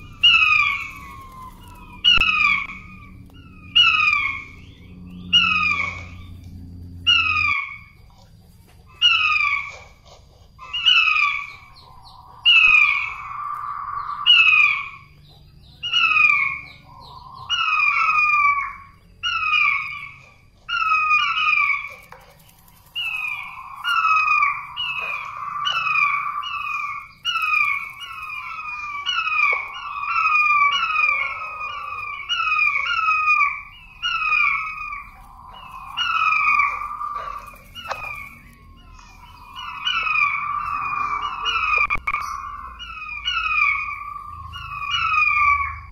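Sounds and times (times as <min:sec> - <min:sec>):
bird whistled calls: 0:00.0 - 0:06.4, 0:10.6 - 0:45.9
bird rolling trill: 0:00.0 - 0:45.9.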